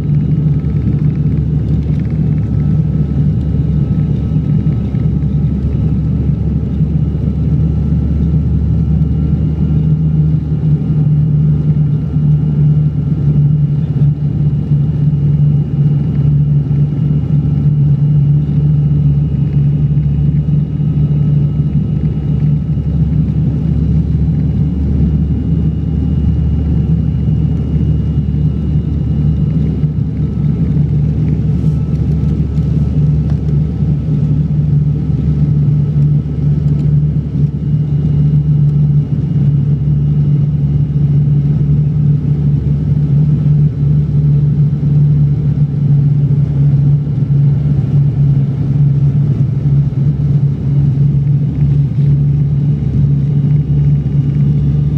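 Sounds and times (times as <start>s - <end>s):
propeller engines droning: 0.0s - 54.9s.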